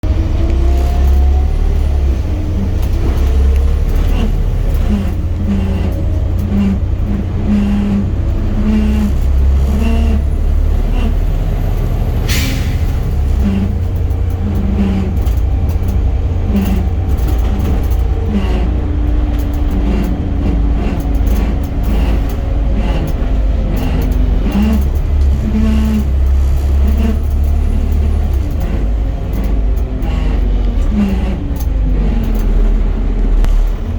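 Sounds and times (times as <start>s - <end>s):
bus drivetrain rumbling: 0.0s - 33.9s
pulsing axle hum: 0.0s - 33.9s.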